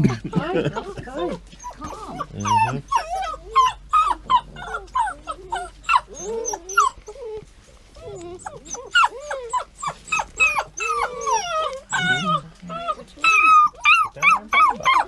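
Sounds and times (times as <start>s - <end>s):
puppies whining and yipping: 0.0s - 15.0s.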